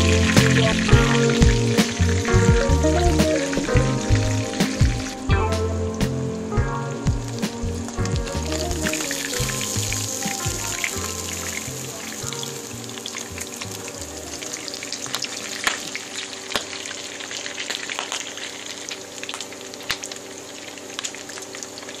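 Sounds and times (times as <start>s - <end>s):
fish sizzling in hot oil: 0.0s - 6.0s, 6.9s - 22.0s
oil popping and crackling: 0.0s - 22.0s.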